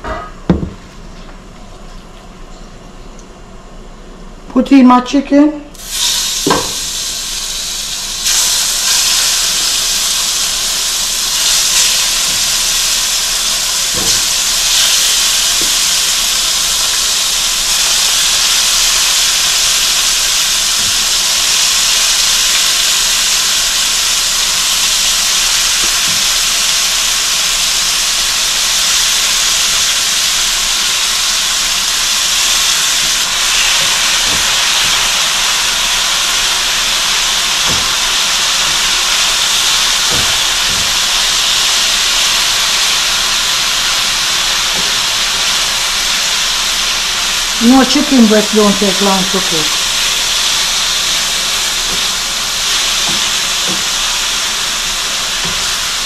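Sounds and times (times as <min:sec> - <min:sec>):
chicken sizzling in oil: 0:05.8 - 0:56.0.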